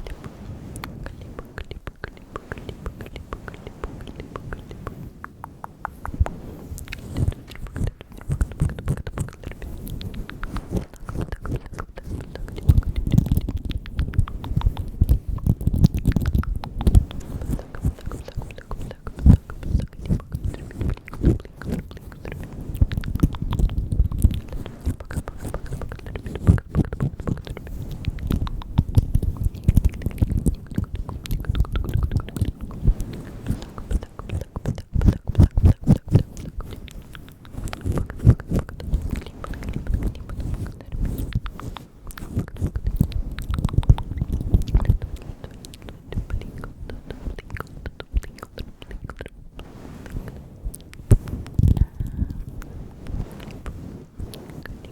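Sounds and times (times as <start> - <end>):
mouth clicks and smacks: 0.0 - 54.9.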